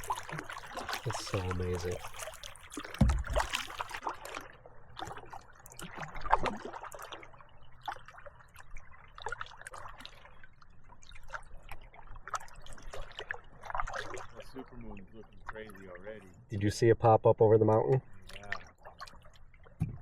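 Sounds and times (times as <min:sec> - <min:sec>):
lake waves lapping: 0:00.0 - 0:16.6, 0:17.6 - 0:20.0.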